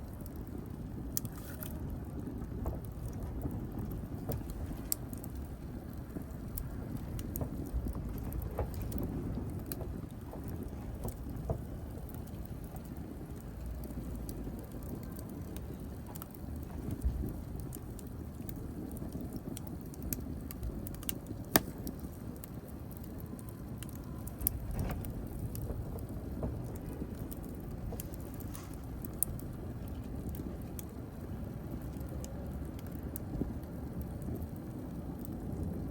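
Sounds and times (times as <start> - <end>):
fire crackling and popping: 0.0 - 35.9
low noise of flames: 0.0 - 35.9.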